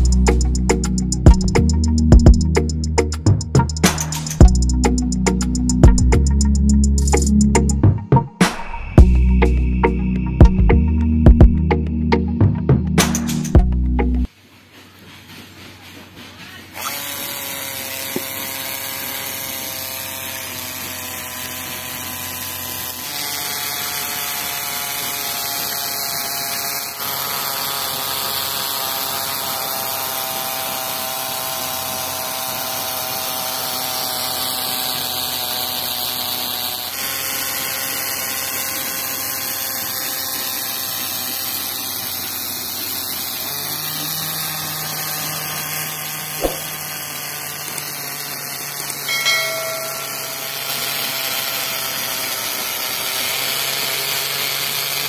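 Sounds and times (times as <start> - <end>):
small motor whining: 0.0 - 14.3, 16.5 - 55.0.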